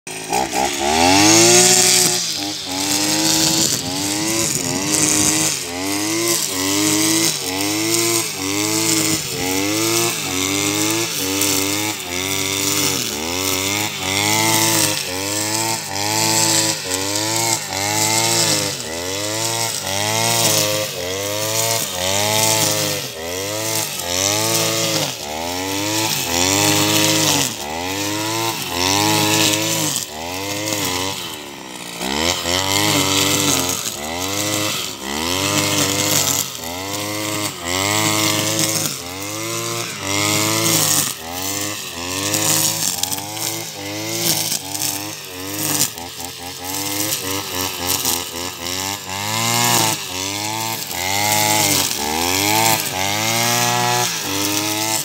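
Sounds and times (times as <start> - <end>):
brush cutter engine mowing grass: 0.0 - 55.0.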